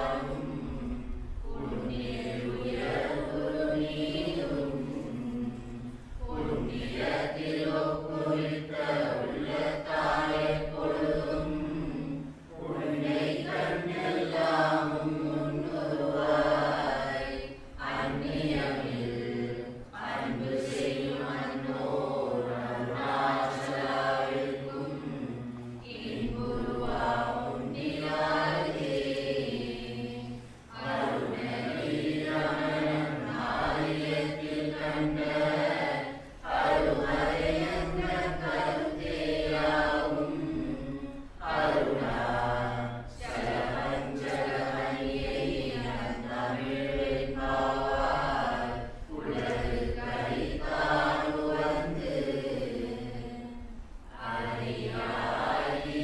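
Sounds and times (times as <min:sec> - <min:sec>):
voices chanting a hymn in unison: 0:00.0 - 0:56.0.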